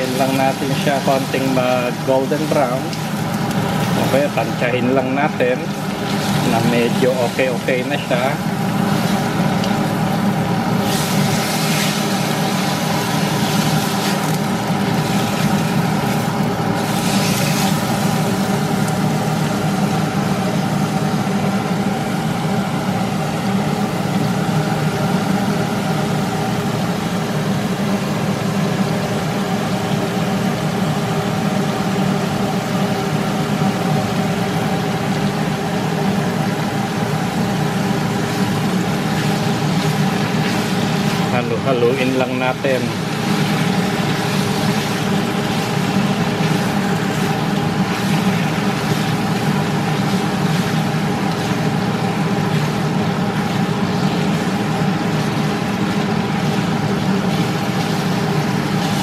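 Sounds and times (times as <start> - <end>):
meat frying in a wok: 0.0 - 59.0
motor hum: 0.0 - 59.0.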